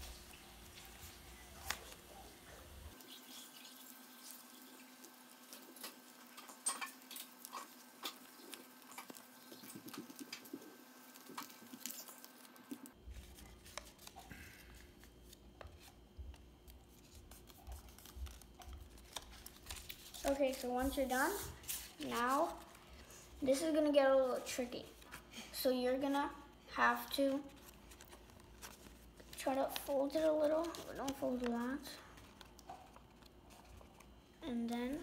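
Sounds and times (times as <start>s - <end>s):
paper crinkling and rustling: 0.0s - 3.2s, 4.2s - 23.6s, 27.0s - 35.0s.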